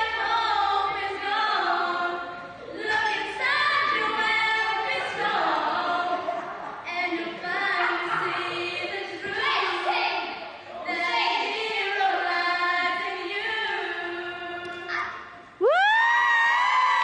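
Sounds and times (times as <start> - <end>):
young women singing together: 0.0 - 17.0.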